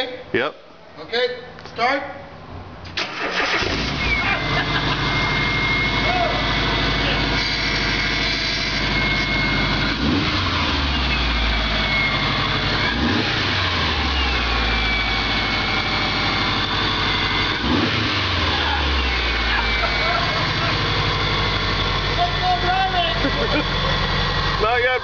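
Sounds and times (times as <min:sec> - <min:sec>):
engine whine: 0:02.4 - 0:25.0
car engine revving: 0:02.9 - 0:25.0.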